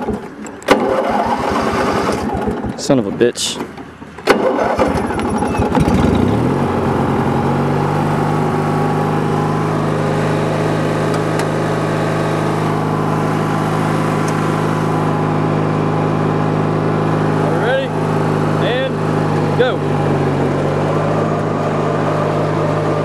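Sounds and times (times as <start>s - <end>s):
riding mower engine starting: 0.0s - 23.0s.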